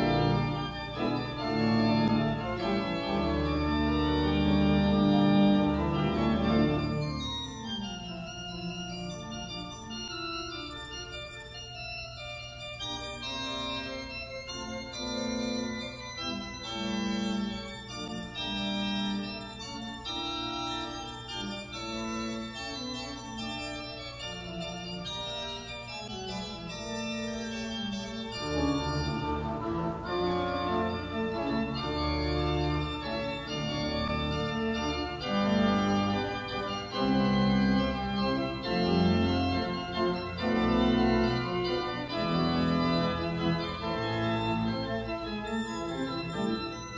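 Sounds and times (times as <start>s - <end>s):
church organ sustained chords: 0.0s - 46.9s.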